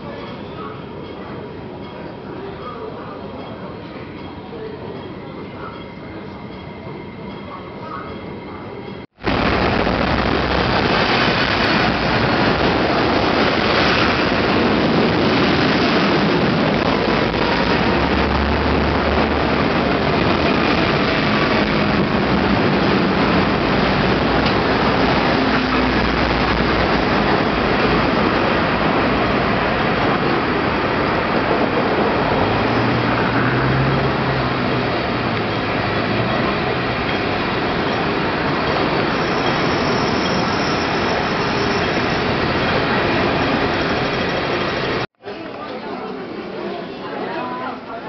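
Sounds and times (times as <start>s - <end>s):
busy street traffic: 0.0s - 48.0s.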